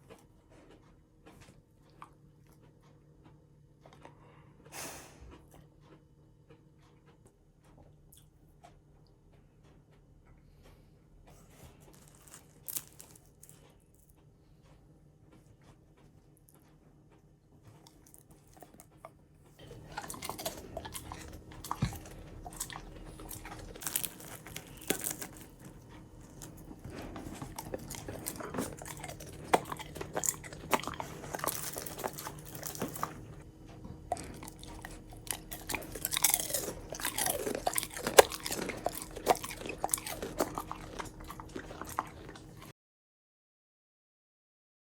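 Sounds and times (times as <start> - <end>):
dog crunching fried batter: 0.0 - 42.7.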